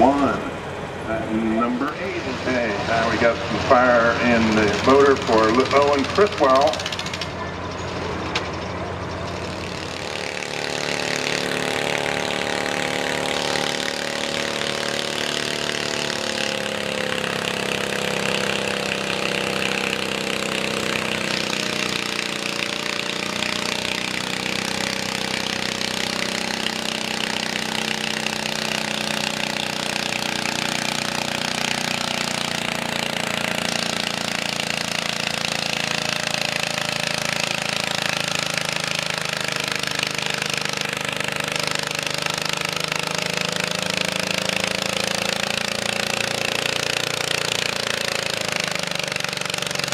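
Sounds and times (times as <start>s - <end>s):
tractor engine running under load: 0.0s - 49.9s.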